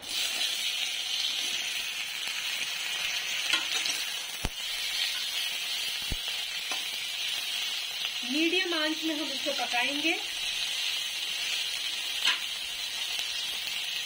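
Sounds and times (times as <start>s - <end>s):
tomatoes sizzling in hot oil: 0.0s - 14.0s.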